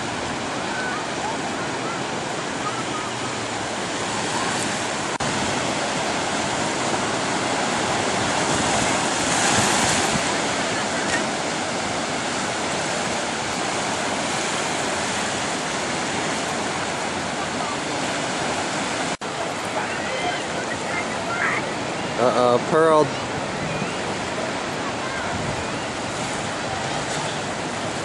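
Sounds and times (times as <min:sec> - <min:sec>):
small waves breaking in surf: 0:00.0 - 0:28.0.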